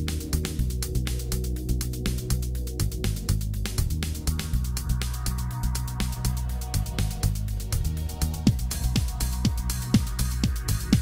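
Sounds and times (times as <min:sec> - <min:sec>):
electronic music with bass: 0:00.0 - 0:11.0.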